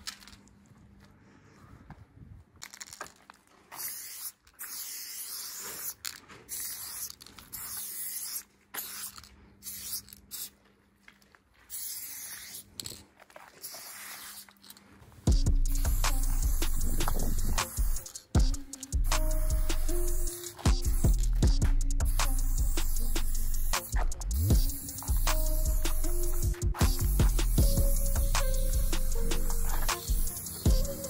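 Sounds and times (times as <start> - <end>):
spray paint can hissing: 3.7 - 10.6, 11.6 - 31.0.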